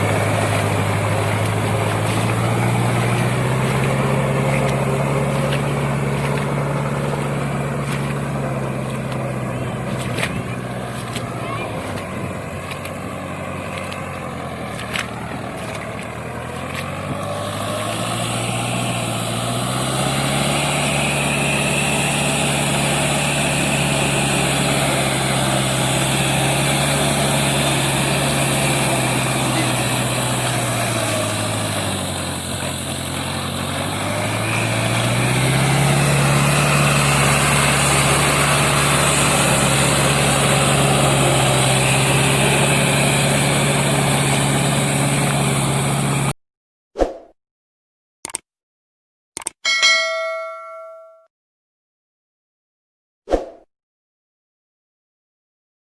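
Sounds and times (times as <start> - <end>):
tractor diesel engine revving: 0.0 - 46.4.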